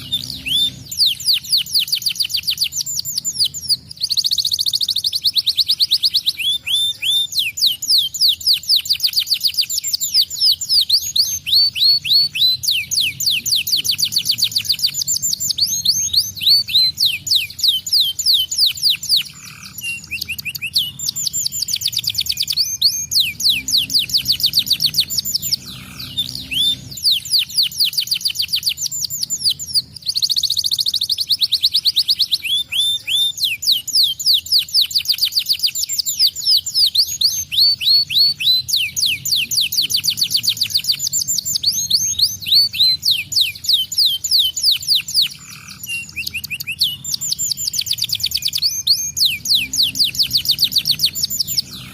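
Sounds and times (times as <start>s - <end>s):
canary singing rapid trills: 0.0s - 51.9s.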